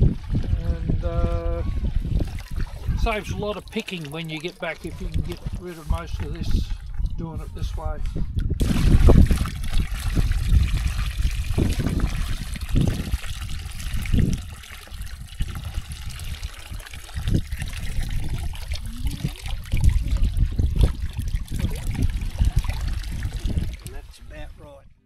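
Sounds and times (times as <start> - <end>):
water pouring from bucket into lake: 0.0 - 7.6, 8.6 - 24.2.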